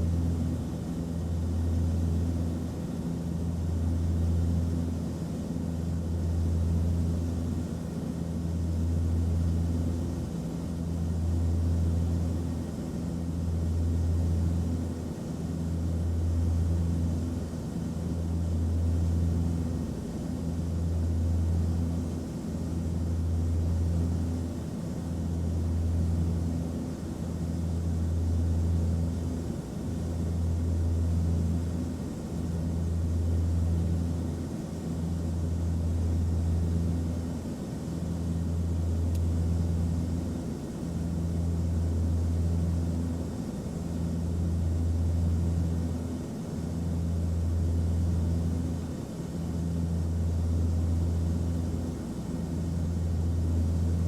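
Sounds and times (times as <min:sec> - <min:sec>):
airplane engine drone: 0:00.0 - 0:54.0.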